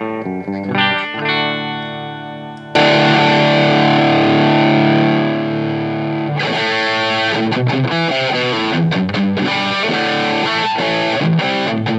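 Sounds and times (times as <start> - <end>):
distorted electric guitar: 0.0 - 11.9.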